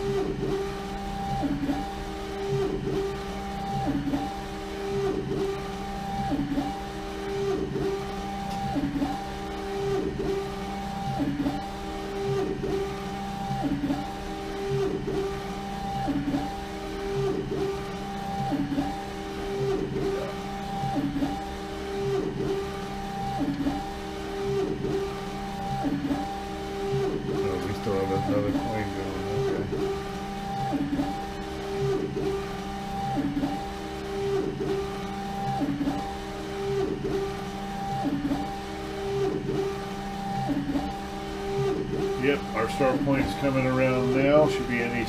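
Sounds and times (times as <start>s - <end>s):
printer carriage motor whine: 0.0s - 45.0s.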